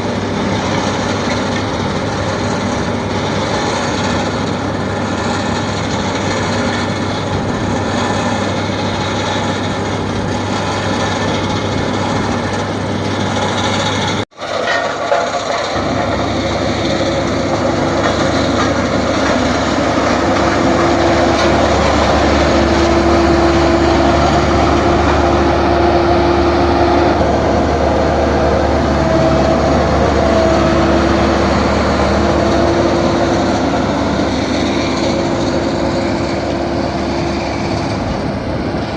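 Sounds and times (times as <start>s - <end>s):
steady mechanical whine: 0.0s - 14.2s, 15.0s - 38.9s
diesel engine rumble: 0.0s - 38.9s.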